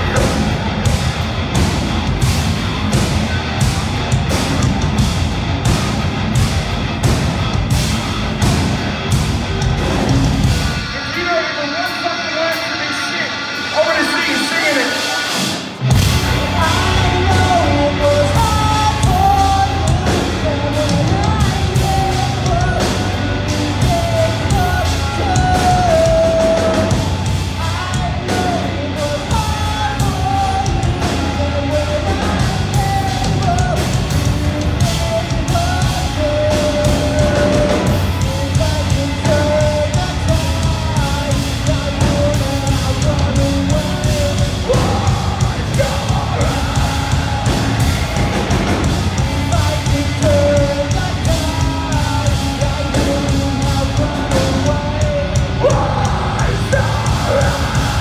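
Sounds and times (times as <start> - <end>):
vocals: 0.0 - 6.4, 7.0 - 58.0
bass: 0.0 - 11.6, 15.3 - 58.0
distorted guitars: 0.0 - 58.0
pounding drums: 0.0 - 58.0.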